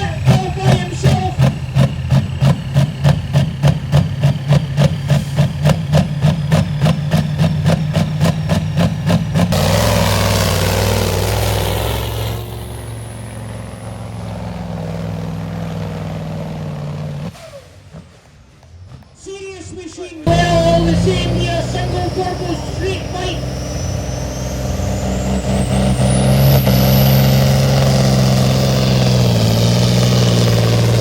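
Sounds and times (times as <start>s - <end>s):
diesel engine throbbing: 0.0s - 19.6s, 20.2s - 31.0s.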